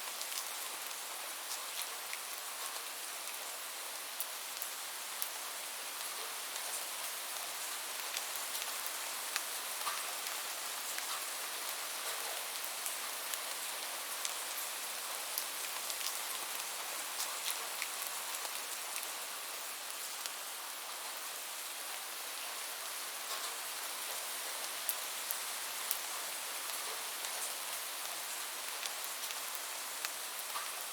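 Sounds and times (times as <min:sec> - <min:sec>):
steady rain hiss: 0:00.0 - 0:30.9.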